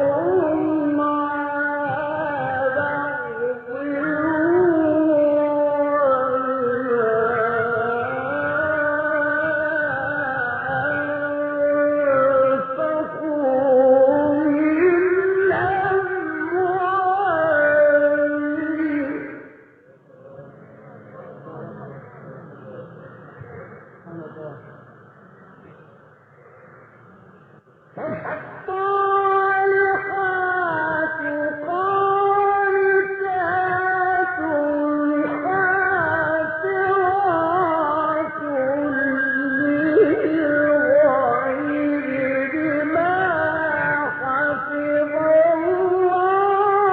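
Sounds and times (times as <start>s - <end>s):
man chanting melodically: 0.0s - 24.8s, 28.0s - 46.9s.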